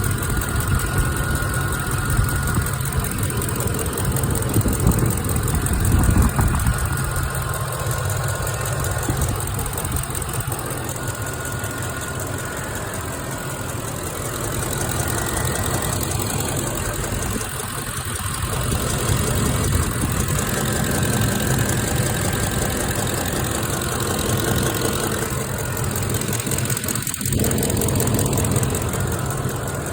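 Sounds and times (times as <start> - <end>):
rapid engine ticking: 0.0 - 29.9
truck engine idling: 0.0 - 29.9.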